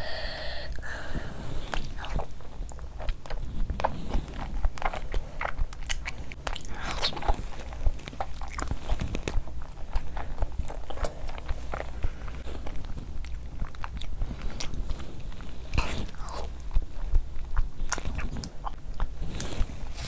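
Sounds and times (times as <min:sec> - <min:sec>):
wet chewing: 0:01.6 - 0:20.0.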